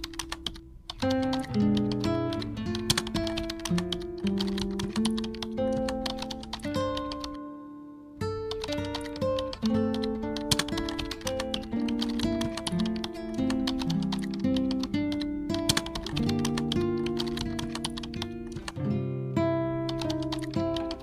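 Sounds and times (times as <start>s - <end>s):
keyboard typing clicks: 0.0s - 7.4s, 8.5s - 18.8s, 19.9s - 21.0s
instrumental background music: 0.0s - 21.0s.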